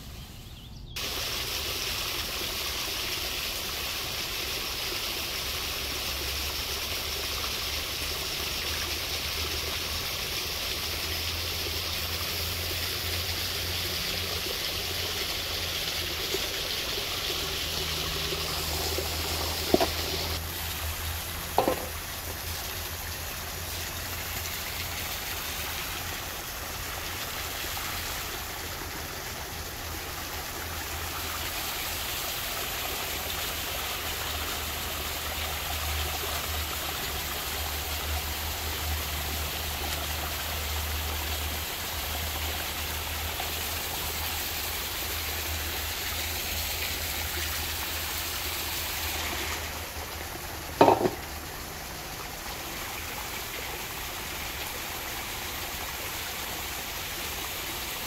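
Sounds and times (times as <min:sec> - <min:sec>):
water pouring onto stones: 0:01.0 - 0:57.3.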